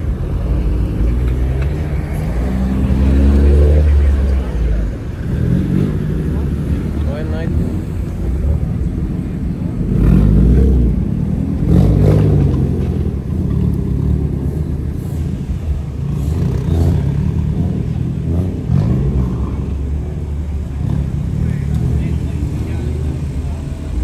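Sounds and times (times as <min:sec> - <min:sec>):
car engines idling: 0:00.0 - 0:24.0
engine revs: 0:00.0 - 0:24.0.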